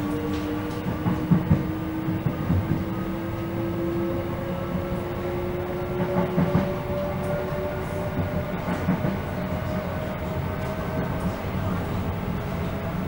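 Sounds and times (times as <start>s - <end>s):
electric train whine: 0.0s - 13.0s
train wheels rumbling on rail: 0.0s - 13.0s.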